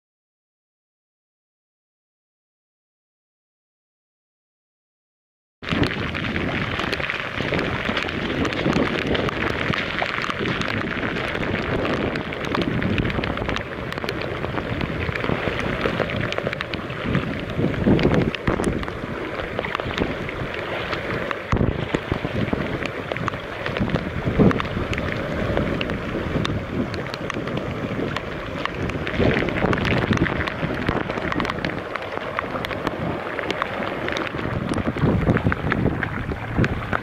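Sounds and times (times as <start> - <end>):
heavy rain falling: 5.6 - 37.0
wind rumbling on microphone: 5.6 - 37.0.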